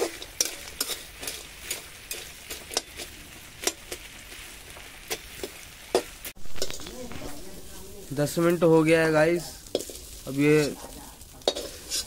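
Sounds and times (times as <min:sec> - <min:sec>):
metal ladle scraping a pan: 0:00.0 - 0:07.4, 0:08.5 - 0:12.0
crab frying in oil: 0:00.0 - 0:12.0.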